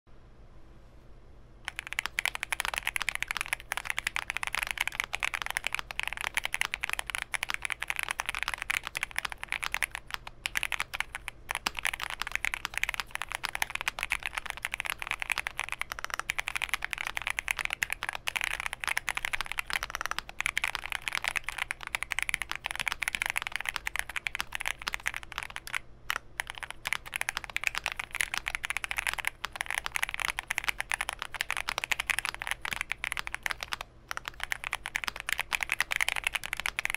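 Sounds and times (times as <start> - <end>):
mechanical keyboard typing: 1.7 - 36.9.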